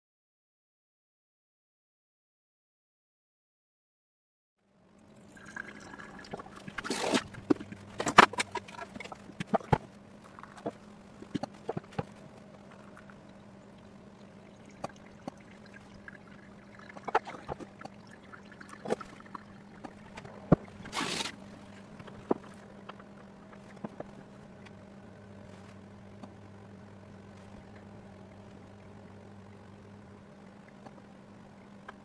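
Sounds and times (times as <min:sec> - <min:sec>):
low hum: 0:04.7 - 0:32.0.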